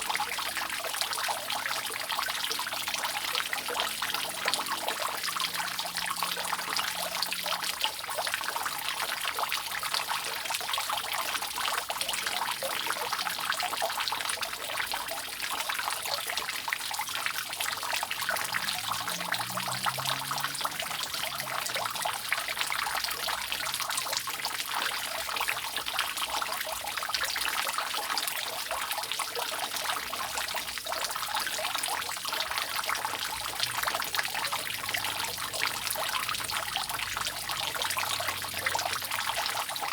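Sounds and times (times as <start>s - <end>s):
rainwater dripping off roof: 0.0s - 39.9s.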